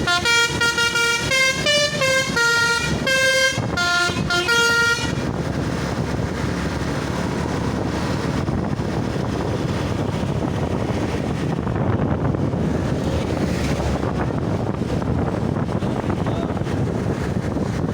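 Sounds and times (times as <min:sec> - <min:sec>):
road traffic: 0:00.0 - 0:17.9
wind buffeting microphone: 0:00.0 - 0:17.9.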